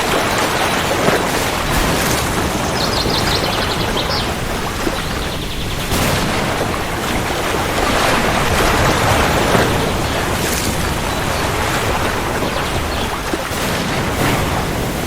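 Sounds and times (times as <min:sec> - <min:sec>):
heavy rain: 0:00.0 - 0:15.0
rolling thunder rumble: 0:00.0 - 0:15.0.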